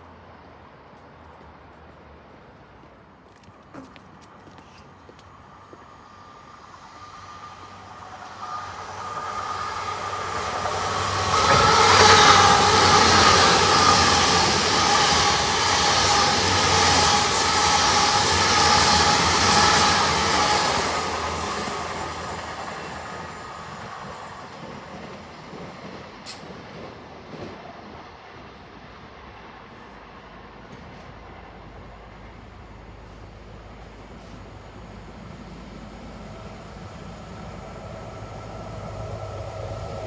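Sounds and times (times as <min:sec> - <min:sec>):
train wheels on rail: 0:00.8 - 0:40.0.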